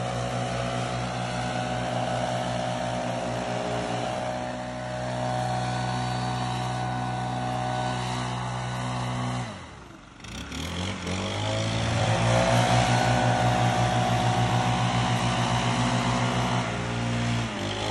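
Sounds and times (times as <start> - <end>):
leaf blower engine revving: 0.0 - 17.9.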